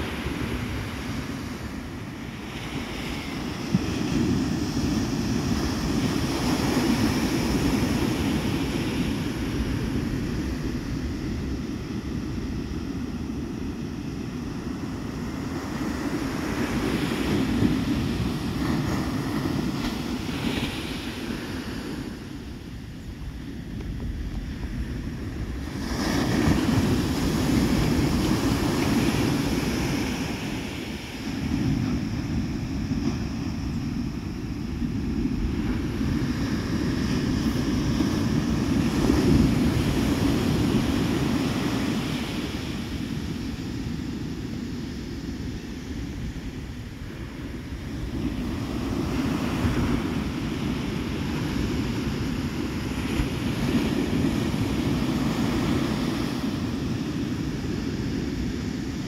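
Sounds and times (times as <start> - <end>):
surf breaking on a beach: 0.0 - 59.0
wind buffeting the microphone: 0.0 - 59.0.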